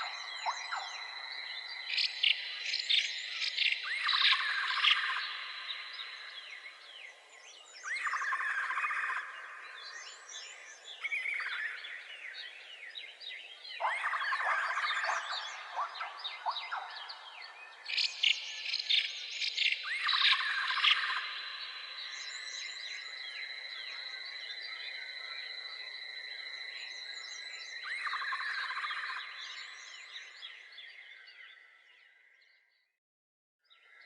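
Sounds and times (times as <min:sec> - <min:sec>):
birds calling and chirping: 0:00.0 - 0:32.5.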